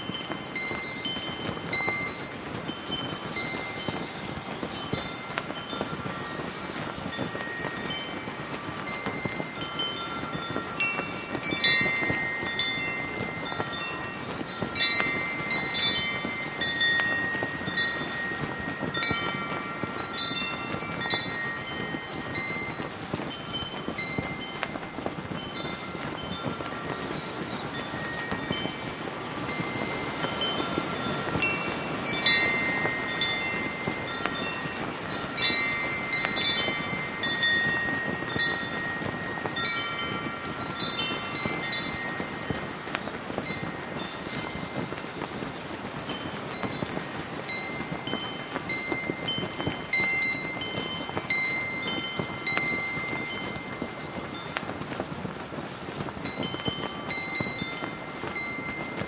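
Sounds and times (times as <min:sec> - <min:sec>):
brass wind chimes ringing: 0:00.0 - 0:59.0
flag flapping: 0:00.0 - 0:59.0
heavy wind rushing: 0:00.0 - 0:59.0.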